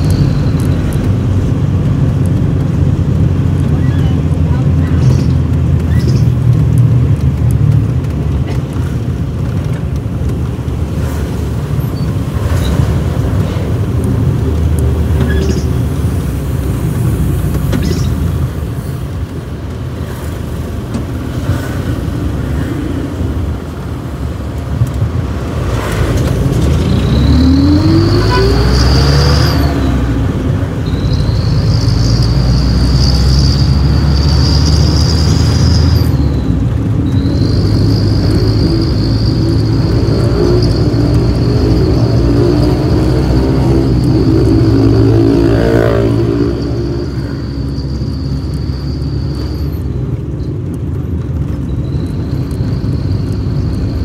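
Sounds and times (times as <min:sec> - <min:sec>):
motor vehicle rumbling: 0:00.0 - 0:54.0.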